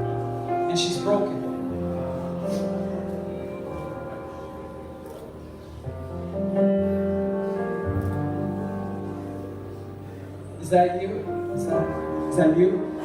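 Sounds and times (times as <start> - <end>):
soft worship music on keyboard: 0.0 - 13.0.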